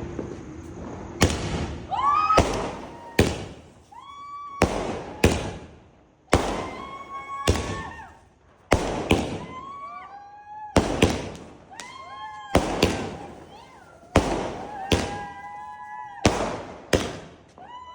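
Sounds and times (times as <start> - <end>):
fireworks whistles: 0.0 - 10.0, 10.8 - 17.9
fireworks bangs: 0.0 - 10.1, 10.7 - 17.9.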